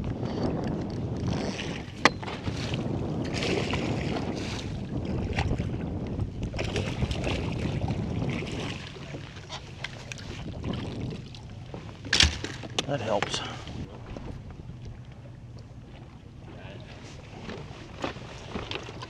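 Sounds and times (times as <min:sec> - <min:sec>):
wind buffeting microphone: 0:00.0 - 0:18.8.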